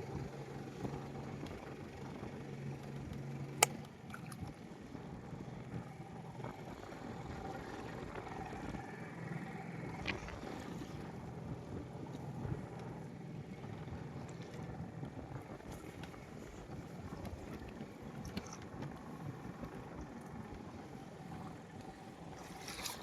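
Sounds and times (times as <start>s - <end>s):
low hum: 0.0s - 23.0s
steady boat noise: 0.0s - 23.0s.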